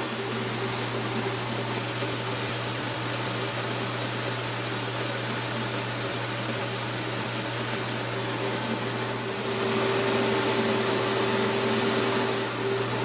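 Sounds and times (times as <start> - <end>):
motor or fan whirring: 0.0 - 13.0.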